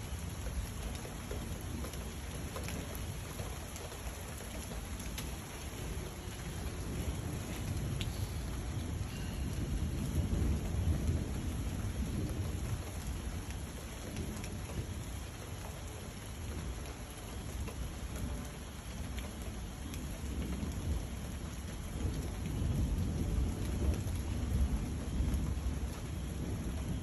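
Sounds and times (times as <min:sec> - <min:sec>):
low rumble of thunder: 0:00.0 - 0:27.0
steady rain falling: 0:00.0 - 0:27.0.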